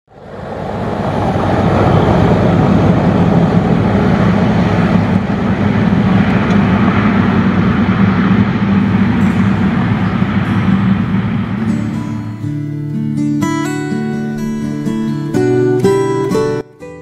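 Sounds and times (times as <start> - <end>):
truck diesel engines running: 0.1 - 16.6.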